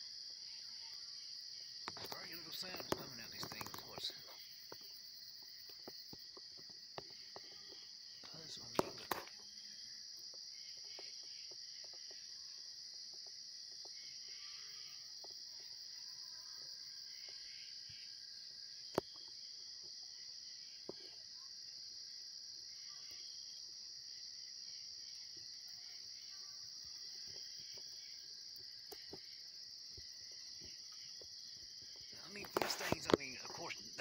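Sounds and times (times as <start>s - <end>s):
shrill insect chorus trilling: 0.0s - 34.0s.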